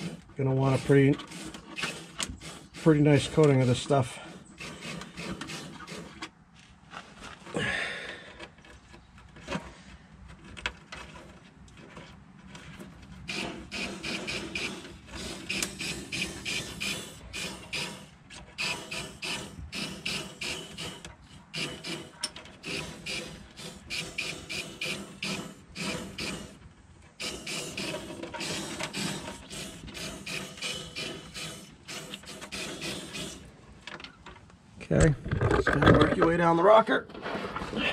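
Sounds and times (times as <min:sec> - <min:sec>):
plastic hose rasping and squeaking: 0:00.0 - 0:07.6, 0:08.2 - 0:34.3.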